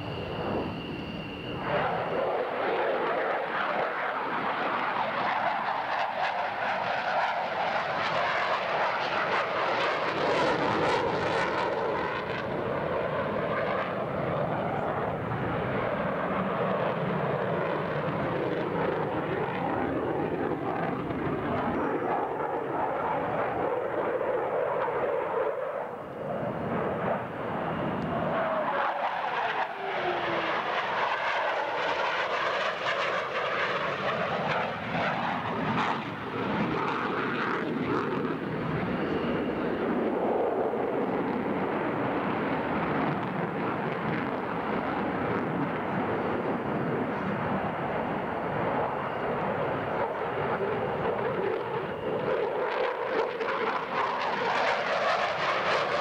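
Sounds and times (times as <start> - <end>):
jet engines roaring in afterburner: 0.0 - 56.0.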